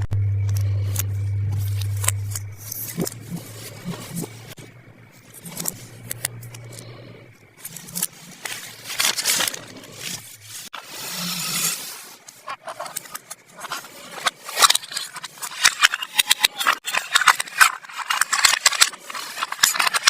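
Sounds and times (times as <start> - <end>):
rustling scrapes: 1.5 - 20.0.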